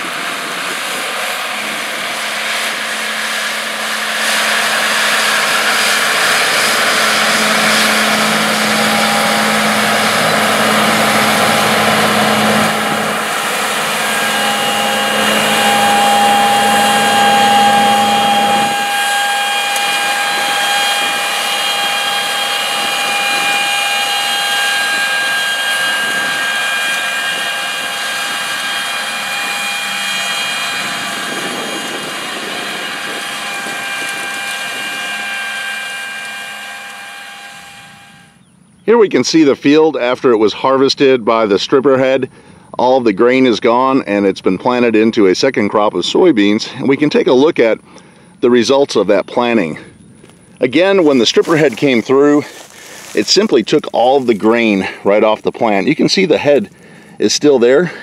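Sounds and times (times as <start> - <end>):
tractor diesel engine under load: 0.0 - 43.7, 46.6 - 58.0
steady whine: 0.0 - 58.0.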